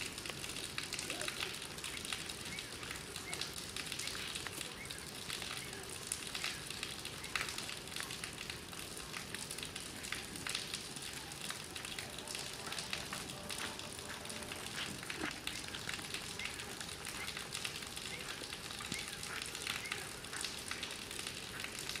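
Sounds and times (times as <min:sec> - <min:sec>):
constant hiss: 0:00.0 - 0:22.0
crackling clicks and ticks: 0:00.0 - 0:22.0.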